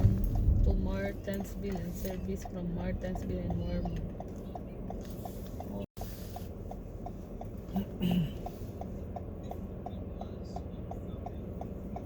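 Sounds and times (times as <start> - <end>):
car engine and road rumble: 0.0 - 12.0
turn signal clicking: 0.0 - 12.0.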